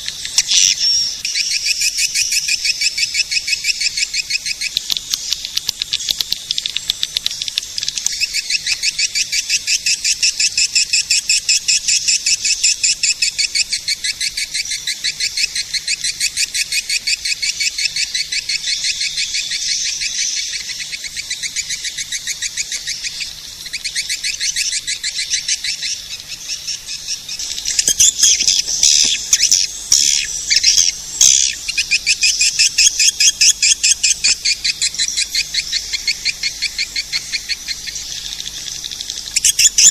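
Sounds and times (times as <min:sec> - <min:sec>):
high-pitched swiftlet twittering: 0:00.0 - 0:39.9.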